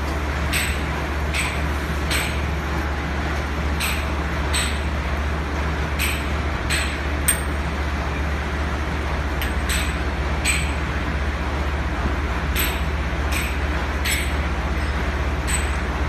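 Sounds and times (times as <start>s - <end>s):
workshop machinery hum: 0.0s - 16.0s.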